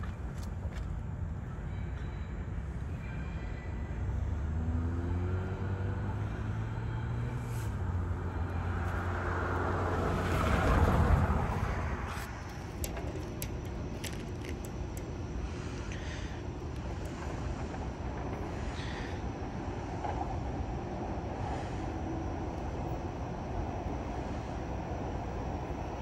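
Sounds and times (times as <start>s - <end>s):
train rumbling on tracks: 0.0s - 26.0s
rush of passing train: 1.0s - 26.0s.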